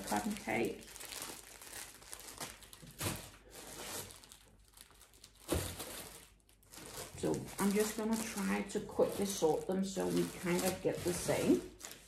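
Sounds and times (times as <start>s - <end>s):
yarn rustling and crinkling: 0.0s - 12.0s.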